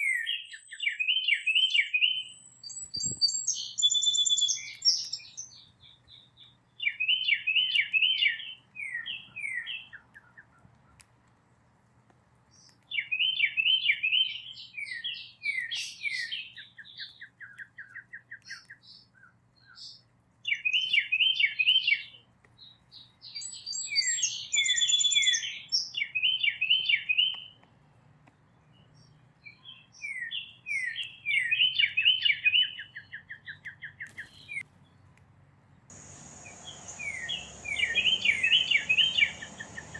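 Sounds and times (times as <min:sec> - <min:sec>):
songbird singing: 0:00.0 - 0:11.0, 0:12.5 - 0:35.2, 0:35.9 - 0:39.9.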